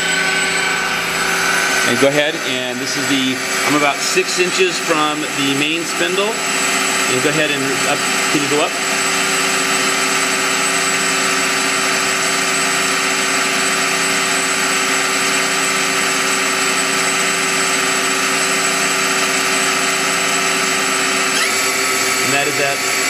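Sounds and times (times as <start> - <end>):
lathe spindle whine: 0.0 - 23.0.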